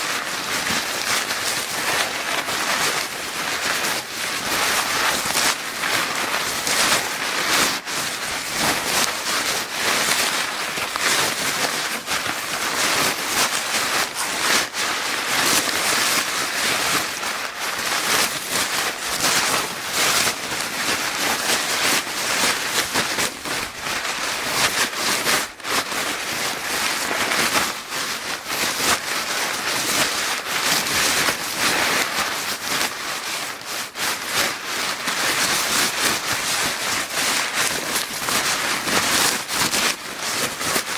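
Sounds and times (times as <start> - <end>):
paper bag crinkling: 0.0 - 40.9.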